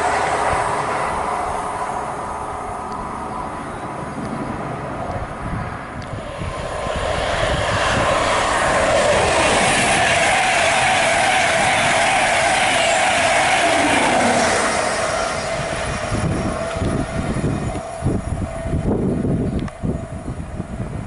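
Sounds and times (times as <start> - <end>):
diesel train rumbling past: 0.0 - 21.0
express train rushing past: 0.0 - 21.0.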